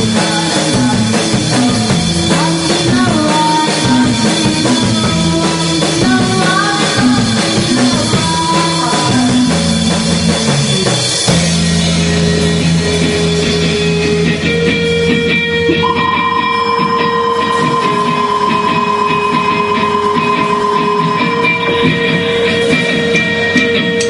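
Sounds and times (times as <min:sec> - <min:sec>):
rock band playing live: 0:00.0 - 0:24.0.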